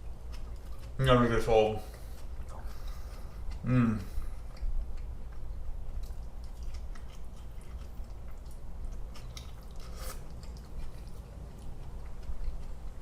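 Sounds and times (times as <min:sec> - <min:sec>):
person chewing pizza: 0:00.0 - 0:13.0.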